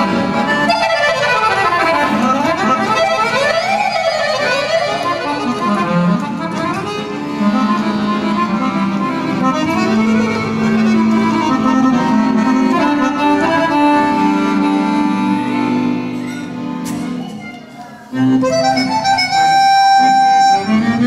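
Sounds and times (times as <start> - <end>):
accordion melody: 0.0 - 21.0.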